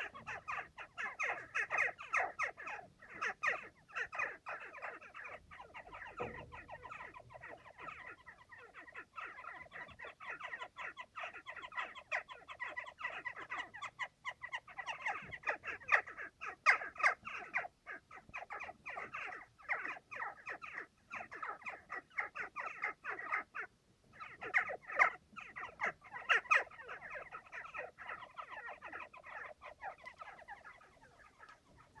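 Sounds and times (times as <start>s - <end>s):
jackdaws calling: 0.0s - 32.0s.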